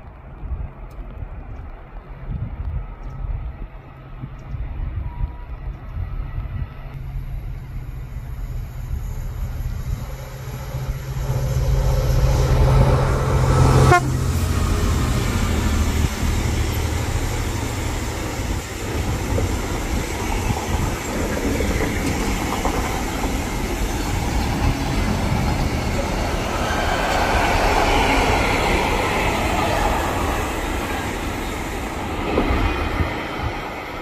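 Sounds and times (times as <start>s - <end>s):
diesel locomotive engine: 0.1s - 34.0s
falling whine of passing locomotive: 3.2s - 34.0s.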